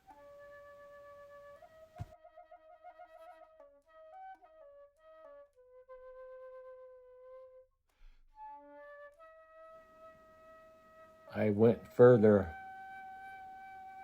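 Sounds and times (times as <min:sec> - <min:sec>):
soft flute melody: 0:00.0 - 0:14.0.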